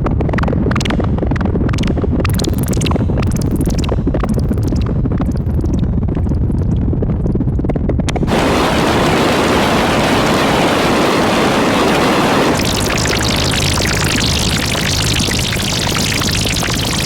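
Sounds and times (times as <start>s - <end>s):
harsh synthesizer noise: 0.0s - 5.9s, 8.1s - 17.0s.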